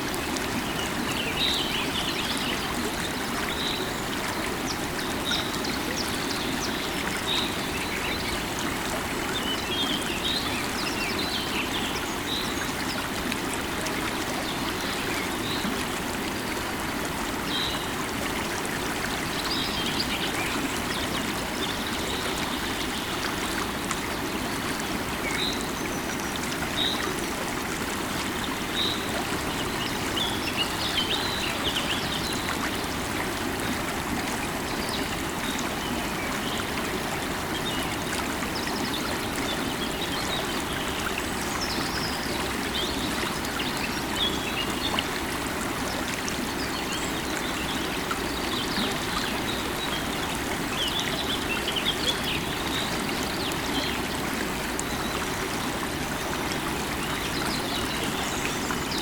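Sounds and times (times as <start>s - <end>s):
river water over rocks: 0.0s - 59.0s.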